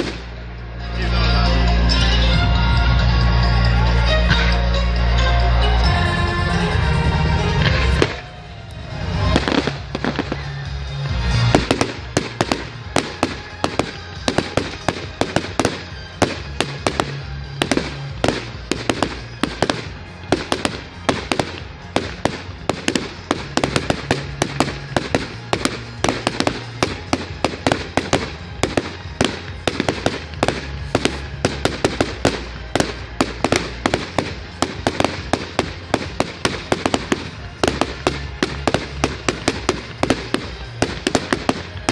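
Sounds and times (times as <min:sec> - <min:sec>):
firework bangs: 0:00.0 - 0:00.4, 0:07.6 - 0:41.9
music with bass line: 0:00.0 - 0:41.9.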